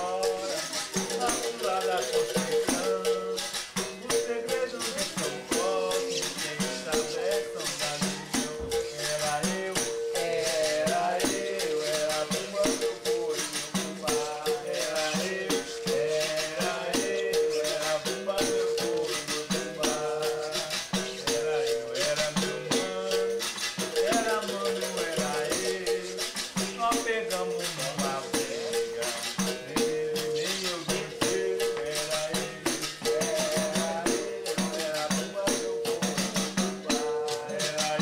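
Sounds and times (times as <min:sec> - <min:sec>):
berimbau repeating pattern: 0:00.0 - 0:38.0
people singing: 0:00.0 - 0:38.0
shaken rattle: 0:00.0 - 0:38.0.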